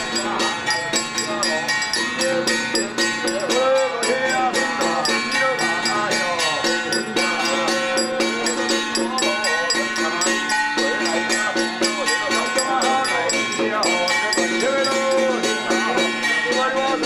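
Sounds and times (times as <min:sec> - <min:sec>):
ringing tones: 0:00.0 - 0:16.8
metallic percussion struck quickly: 0:00.0 - 0:17.0
wavering melody: 0:00.0 - 0:17.0.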